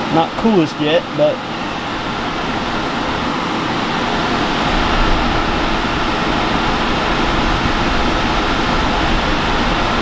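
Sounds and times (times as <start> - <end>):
air conditioner fan rushing: 0.0 - 10.0.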